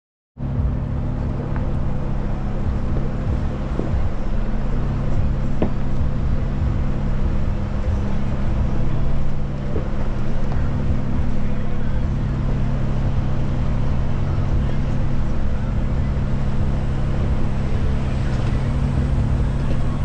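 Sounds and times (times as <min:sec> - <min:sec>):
car engine running at low speed: 0:00.4 - 0:20.0.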